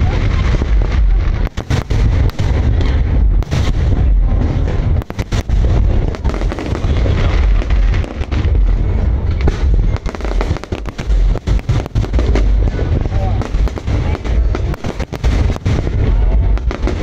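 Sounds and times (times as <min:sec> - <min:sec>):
fireworks bangs and crackles: 0:00.0 - 0:17.0
rolling low boom: 0:00.0 - 0:17.0.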